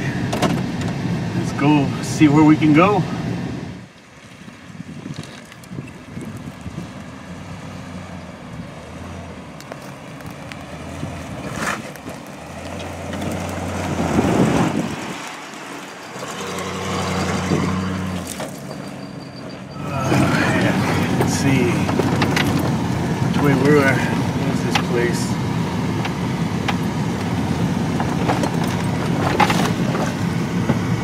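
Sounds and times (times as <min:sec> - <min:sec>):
truck engine running: 0:05.6 - 0:31.0.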